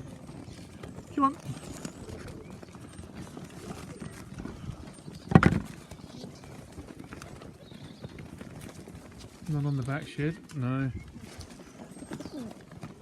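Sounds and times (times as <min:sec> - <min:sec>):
pigeons fluttering: 0:00.0 - 0:13.0.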